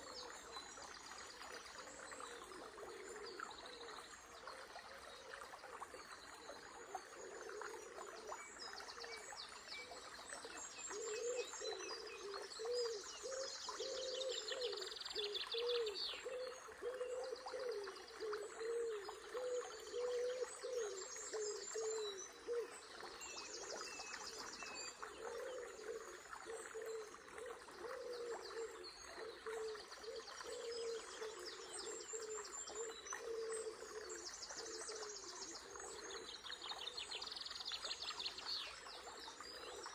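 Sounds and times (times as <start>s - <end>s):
river babbling: 0.0s - 39.9s
songbirds singing: 0.0s - 39.9s.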